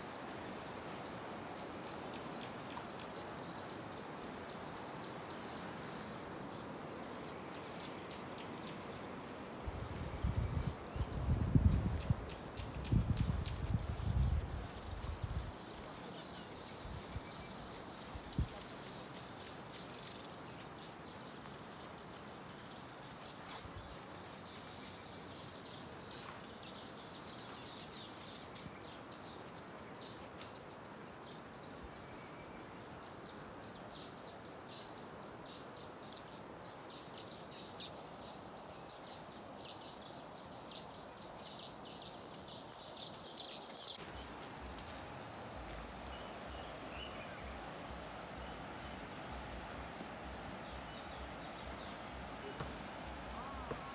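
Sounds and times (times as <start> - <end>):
rushing water hiss: 0.0 - 32.0, 33.1 - 53.9
birds chattering and chirping: 1.3 - 53.9.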